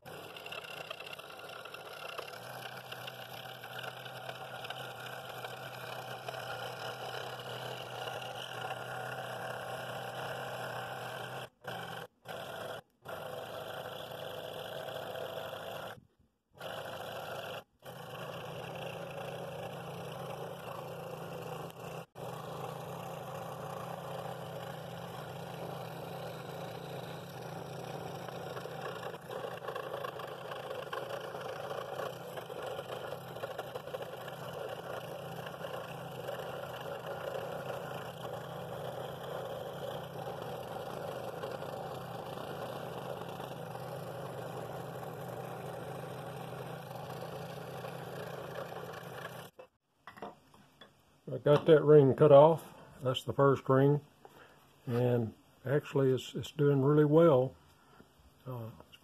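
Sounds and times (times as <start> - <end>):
scroll saw cutting wood: 0.0 - 49.7, 54.9 - 57.5.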